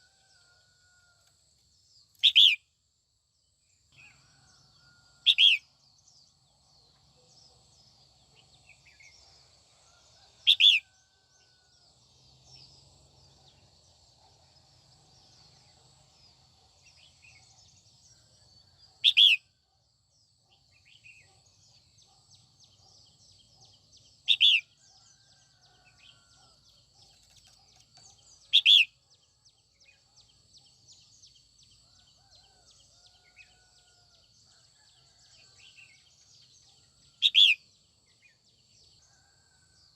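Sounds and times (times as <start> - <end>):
faint background chirping: 0.0 - 39.9.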